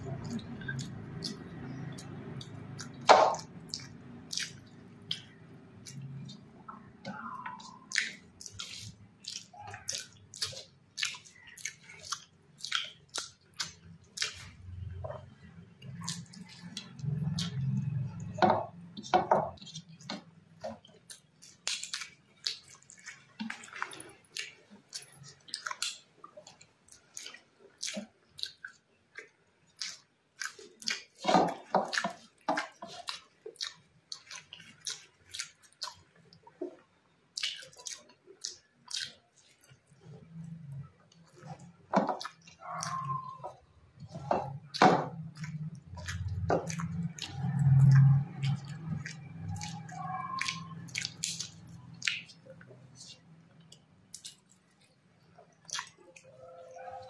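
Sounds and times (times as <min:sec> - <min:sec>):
wet chewing and lip smacking: 0:00.0 - 0:57.0.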